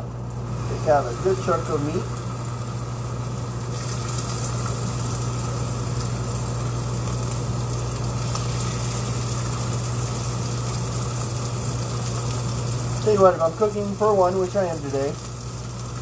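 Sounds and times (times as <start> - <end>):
kitchen appliance humming: 0.0 - 16.0.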